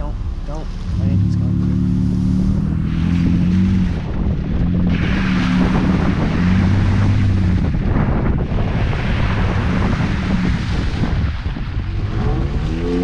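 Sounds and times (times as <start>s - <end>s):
vehicle engine humming: 0.0s - 13.0s
wind on microphone: 0.0s - 13.0s.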